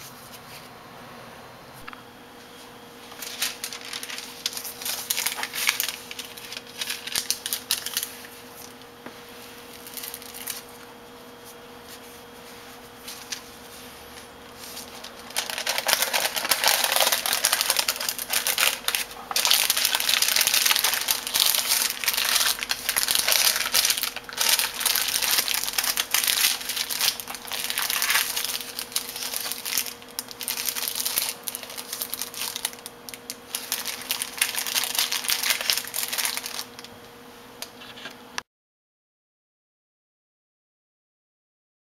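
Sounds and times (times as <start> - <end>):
paper crinkling and rustling: 3.0 - 10.8, 11.4 - 38.2.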